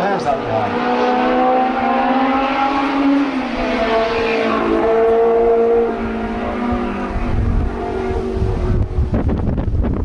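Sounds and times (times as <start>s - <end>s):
race car engine accelerating: 0.0s - 10.0s.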